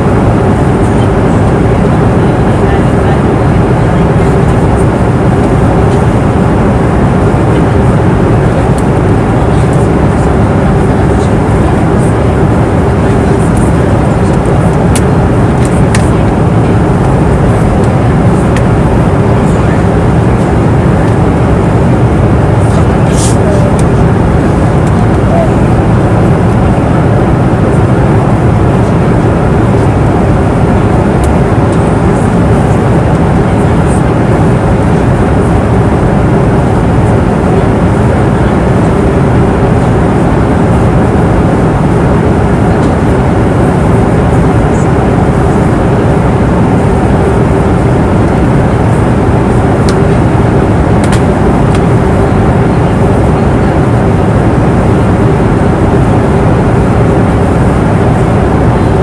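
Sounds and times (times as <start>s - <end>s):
airliner cabin engine rumble: 0.0s - 59.0s
faint steady hum: 0.0s - 59.0s.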